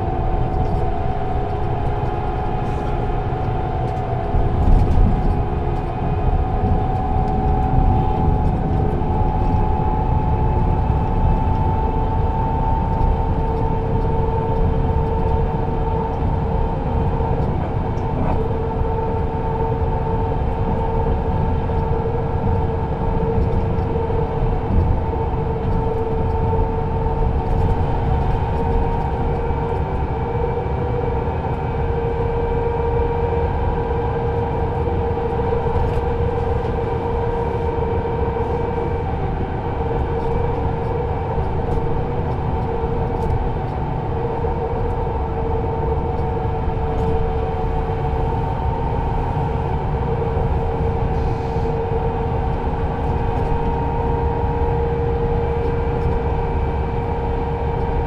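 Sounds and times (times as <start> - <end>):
coach engine drone: 0.0 - 58.0
road and tyre rumble: 0.0 - 58.0.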